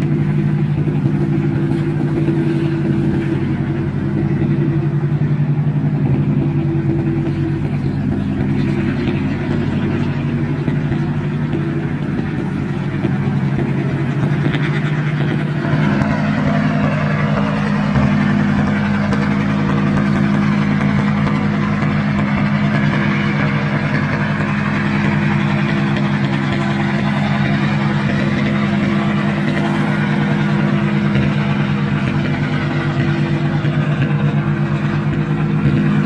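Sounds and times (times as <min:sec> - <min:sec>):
boat diesel engines running: 0:00.0 - 0:36.0.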